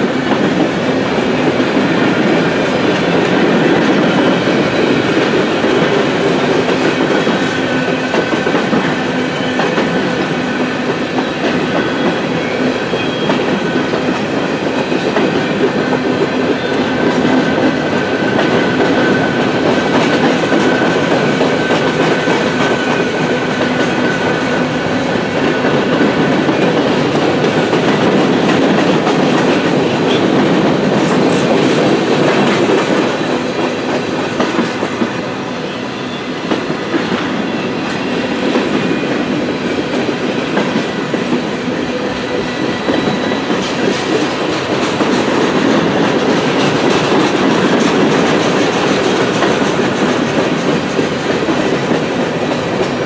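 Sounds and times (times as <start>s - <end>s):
steel wheels rumbling on rails: 0.0s - 53.0s.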